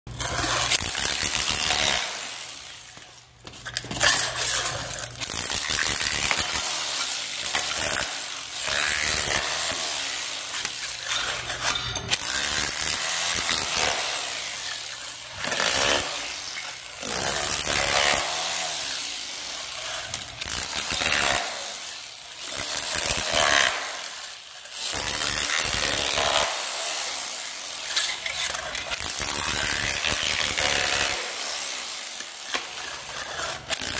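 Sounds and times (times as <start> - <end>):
rotary hammer breaking tile: 0.1 - 33.9.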